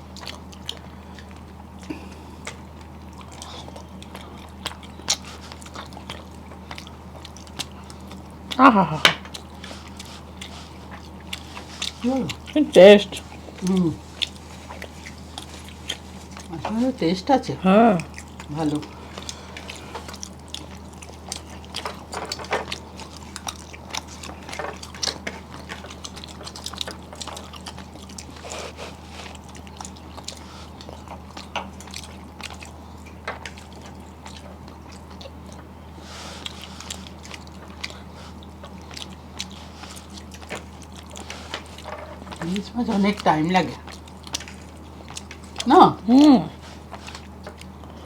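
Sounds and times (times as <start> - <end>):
person chewing food: 0.0 - 48.0
steady low hum: 0.0 - 48.0.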